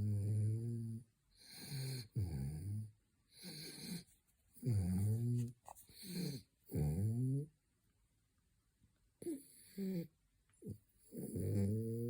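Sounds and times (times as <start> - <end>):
dog snoring: 0.0 - 7.5, 9.2 - 12.0.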